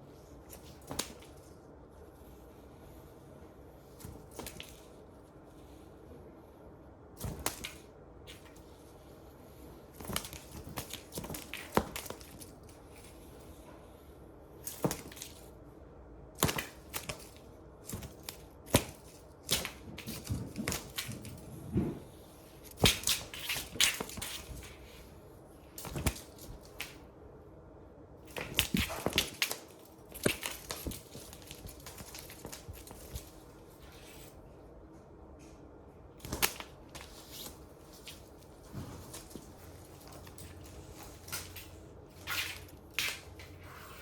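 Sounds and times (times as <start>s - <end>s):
cat playing with ribbon toy: 0.1s - 3.1s, 3.7s - 5.8s, 7.0s - 15.7s, 16.3s - 27.2s, 28.2s - 34.4s, 36.1s - 44.0s.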